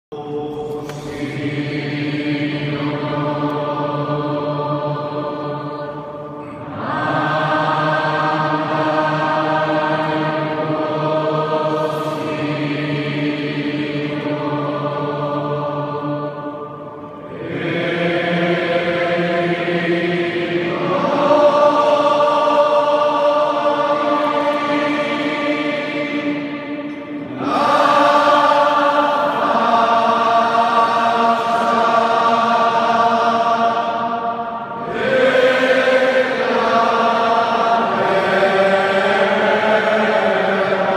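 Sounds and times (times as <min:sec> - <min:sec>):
choir singing sustained chords: 0:00.1 - 0:40.9.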